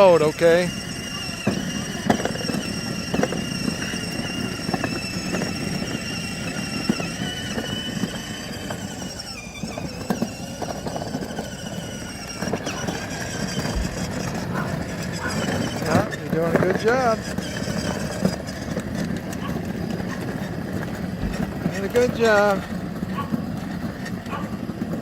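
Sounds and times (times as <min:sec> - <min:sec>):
electric motor whine: 0:00.0 - 0:25.0
toy wheels rolling: 0:00.0 - 0:25.0.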